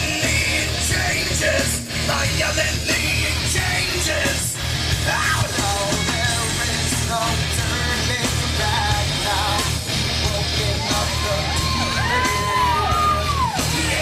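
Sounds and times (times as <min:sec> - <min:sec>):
nu-metal song over sound system: 0:00.0 - 0:14.0.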